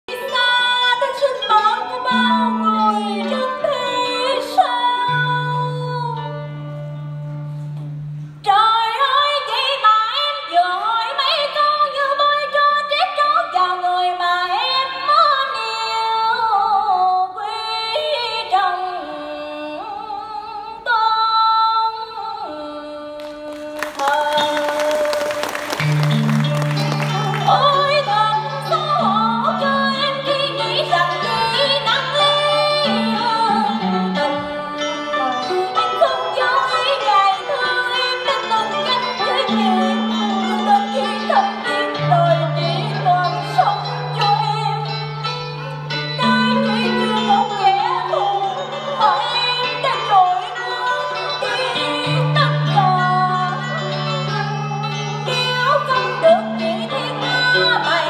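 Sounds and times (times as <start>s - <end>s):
woman singing: 0.1s - 6.4s, 8.4s - 58.0s
traditional instrumental accompaniment: 0.1s - 58.0s.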